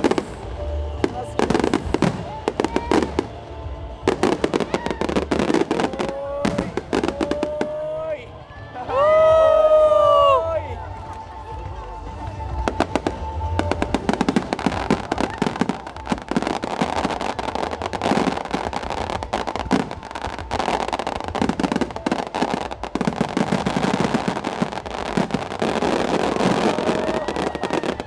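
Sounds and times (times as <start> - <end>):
fireworks bursting: 0.0 - 8.4, 9.3 - 28.0.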